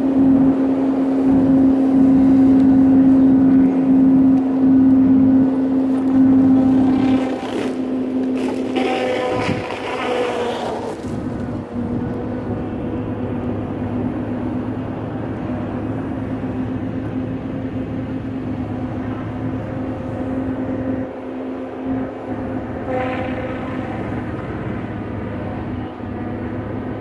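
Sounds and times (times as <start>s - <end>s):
heavy machinery engine drone: 0.0s - 27.0s.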